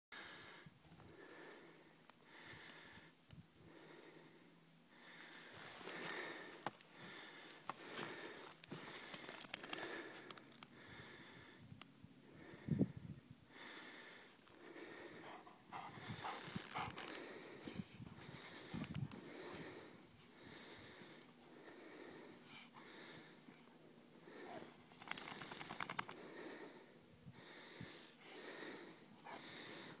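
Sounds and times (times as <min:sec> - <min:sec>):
faint breathing: 0:00.1 - 0:30.0.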